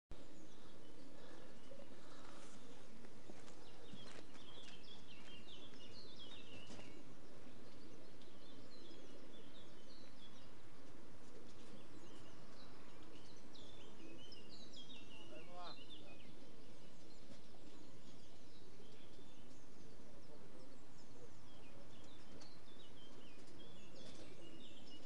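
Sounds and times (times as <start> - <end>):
low background noise: 0.1 - 25.0
songbirds singing: 0.1 - 25.0.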